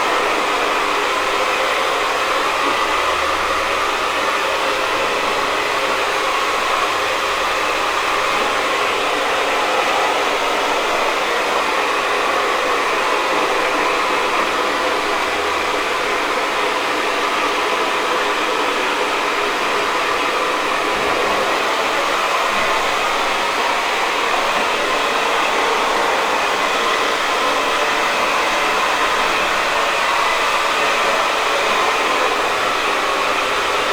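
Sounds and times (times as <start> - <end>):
hair dryer blowing: 0.0 - 33.9.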